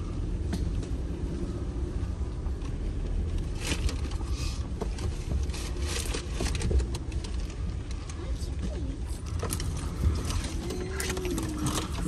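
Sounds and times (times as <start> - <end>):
engine and tyre rumble: 0.0 - 12.0
crackles and scrapes: 2.3 - 12.0.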